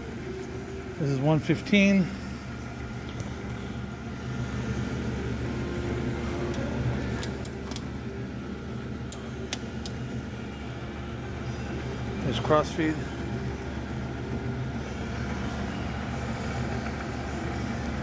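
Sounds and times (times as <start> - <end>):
lathe gear-train hum: 0.0 - 18.0.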